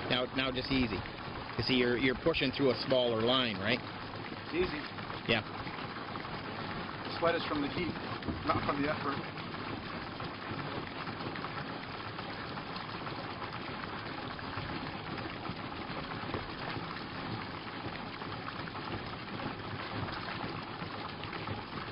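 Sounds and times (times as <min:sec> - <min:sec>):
water splashing from hose: 0:00.0 - 0:21.9.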